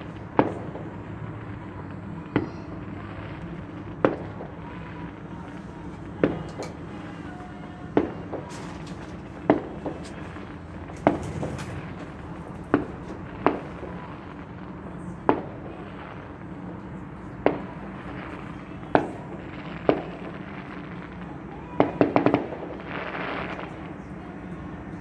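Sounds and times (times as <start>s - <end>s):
firework bangs: 0.0s - 25.0s
firework crackling pops: 0.0s - 25.0s.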